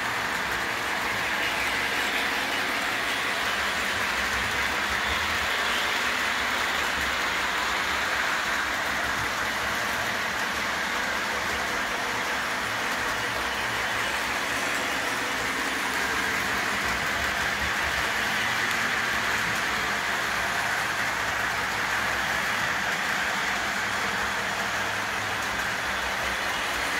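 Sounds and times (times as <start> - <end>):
model train rolling on track: 0.0 - 26.9.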